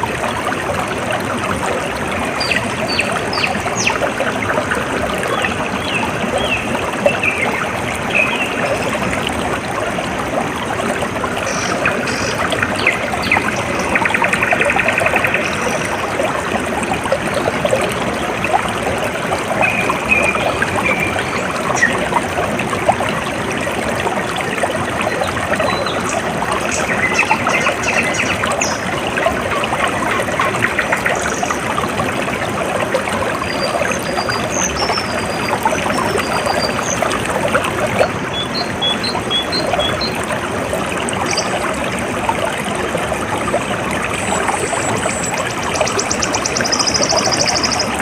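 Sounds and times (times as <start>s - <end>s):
running water trickling: 0.0s - 48.0s.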